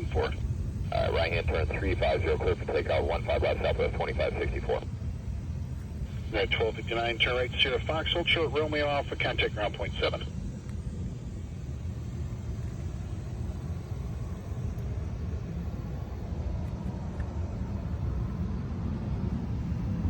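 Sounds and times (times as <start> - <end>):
faint jet engine whine: 0.0 - 20.0
jet engine rumble: 0.0 - 20.0.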